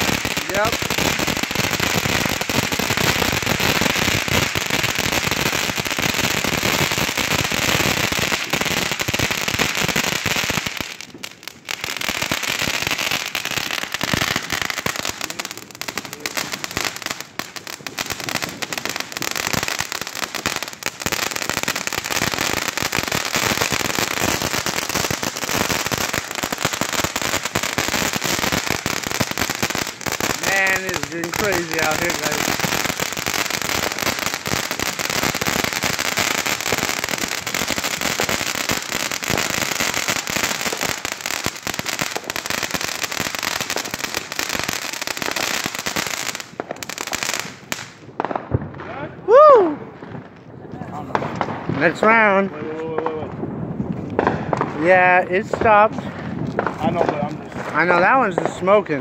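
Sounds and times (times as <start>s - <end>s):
fireworks crackling and hissing: 0.0s - 59.0s.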